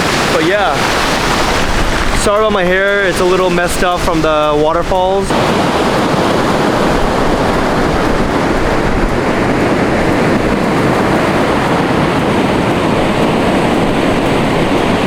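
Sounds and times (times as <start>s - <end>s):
ocean surf washing ashore: 0.0s - 15.0s
wind on microphone: 0.0s - 15.0s.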